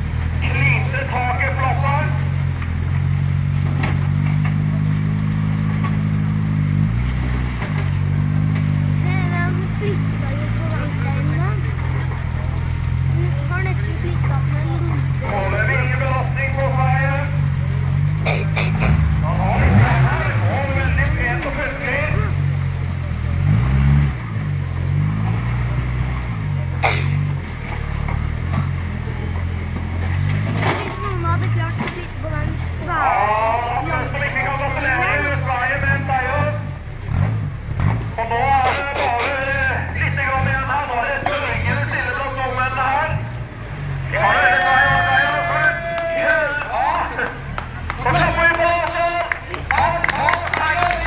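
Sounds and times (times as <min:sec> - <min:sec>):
buggy engine running at low revs: 0:00.0 - 0:51.0.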